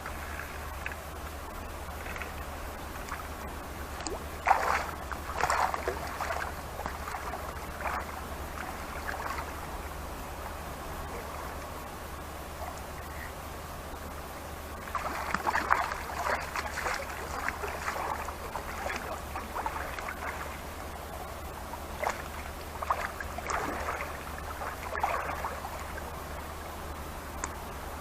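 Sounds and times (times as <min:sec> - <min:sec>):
water splashing and sloshing: 0:00.0 - 0:27.6.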